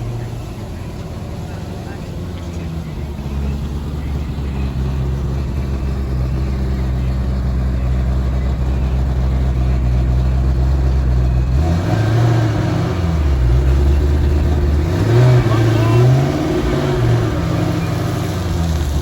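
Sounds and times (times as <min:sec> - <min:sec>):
car engine running and revving: 0:00.0 - 0:19.0.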